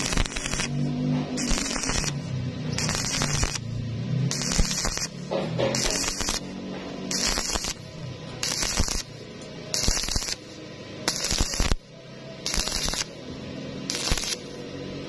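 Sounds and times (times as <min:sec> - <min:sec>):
welding arc crackling hiss: 0:00.0 - 0:13.2, 0:13.8 - 0:14.5.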